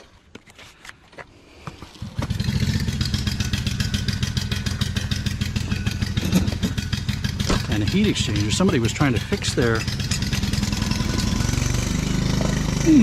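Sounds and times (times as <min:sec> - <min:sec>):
engine running: 0:02.0 - 0:13.0.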